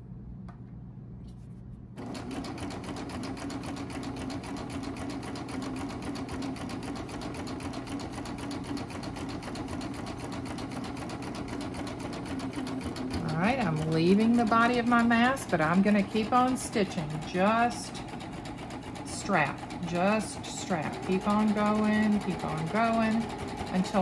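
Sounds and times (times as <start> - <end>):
serger sewing machine stitching: 2.0 - 24.0.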